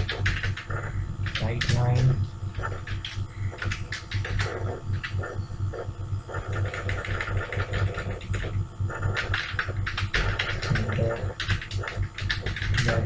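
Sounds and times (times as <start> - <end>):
keyboard keys clicking: 0.0 - 5.3, 6.4 - 13.0
pulsing low hum: 0.0 - 13.0.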